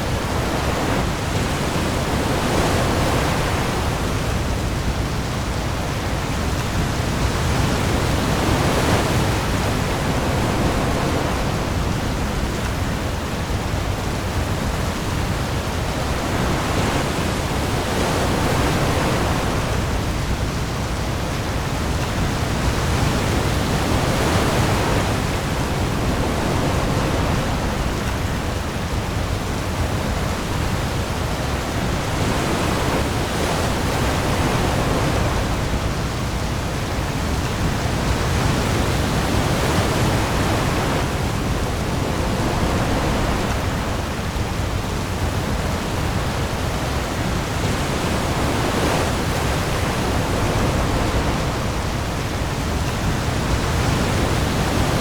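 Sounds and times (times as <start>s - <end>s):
heavy rain on sea: 0.0s - 55.0s
waves: 0.0s - 55.0s.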